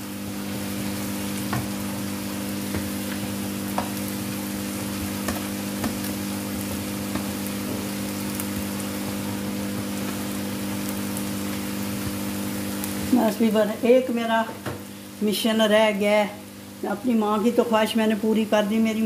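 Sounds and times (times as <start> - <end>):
food sizzling in frying pan: 0.0 - 19.0.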